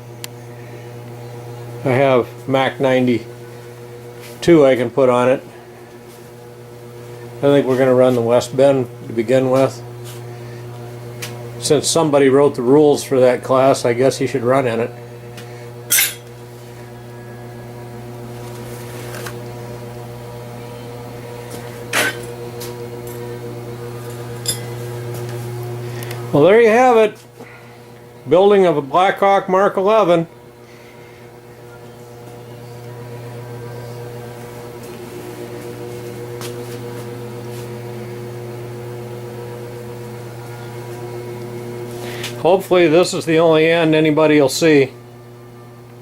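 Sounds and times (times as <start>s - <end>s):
steady machine hum: 0.0s - 46.0s.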